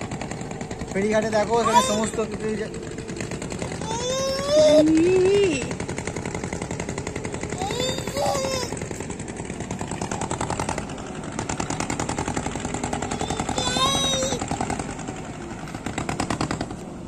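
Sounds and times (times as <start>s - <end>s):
diesel boat engine knocking: 0.0s - 17.0s.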